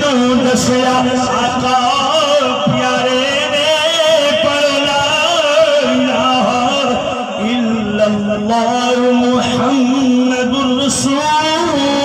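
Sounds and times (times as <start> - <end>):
man chanting through microphone: 0.0 - 12.0.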